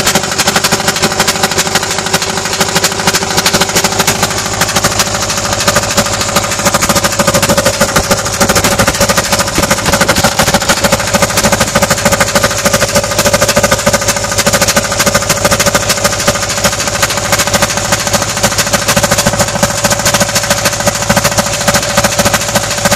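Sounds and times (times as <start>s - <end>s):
engine chugging: 0.0s - 22.9s.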